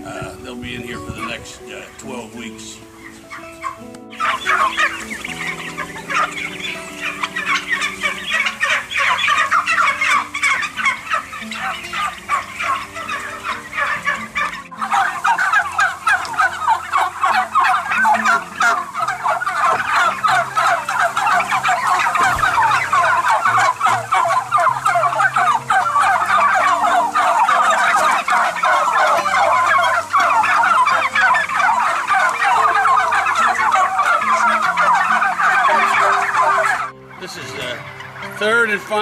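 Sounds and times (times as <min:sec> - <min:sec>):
turkeys gobbling: 0:00.0 - 0:39.0.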